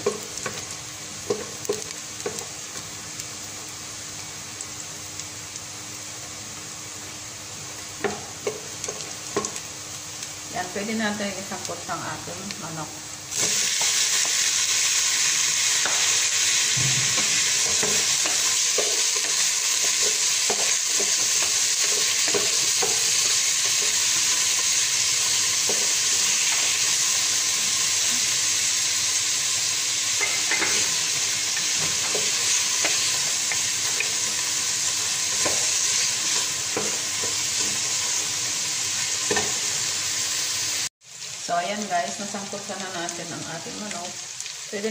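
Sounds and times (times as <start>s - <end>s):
chicken sizzling in hot oil: 0.0s - 44.9s.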